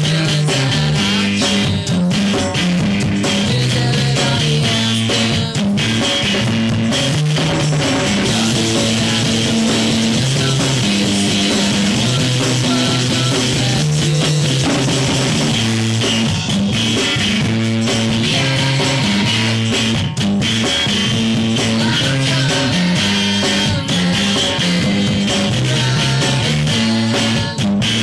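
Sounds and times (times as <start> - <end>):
bass guitar low notes: 0.0 - 28.0
rock band playing: 0.0 - 28.0.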